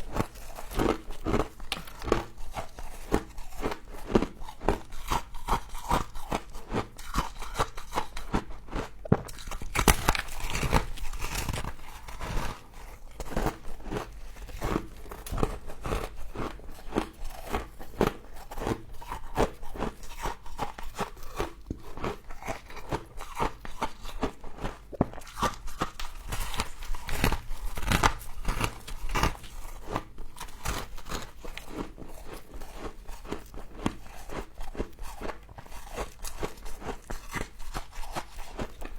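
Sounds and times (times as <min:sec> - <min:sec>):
crunching and chewing frost: 0:00.0 - 0:38.9.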